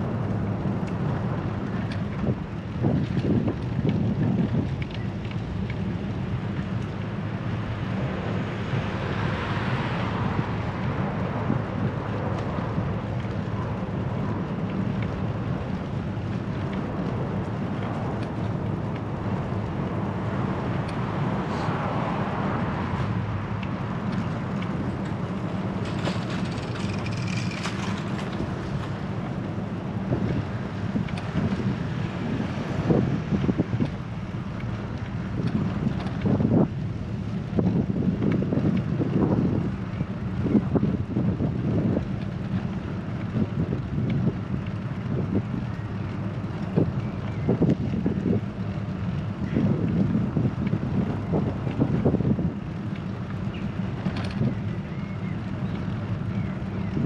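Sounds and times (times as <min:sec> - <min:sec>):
city traffic passing: 0:00.0 - 0:57.0
wind rumble on microphone: 0:00.0 - 0:57.0.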